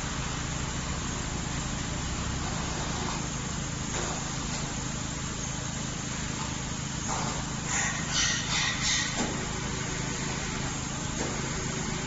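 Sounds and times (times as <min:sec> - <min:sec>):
machinery low rumble and hiss: 0:00.0 - 0:12.0.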